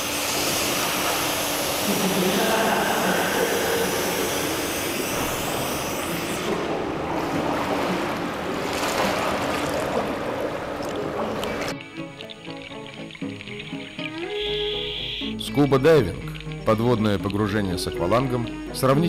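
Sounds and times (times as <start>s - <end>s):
water splashing and churning: 0.0s - 19.0s.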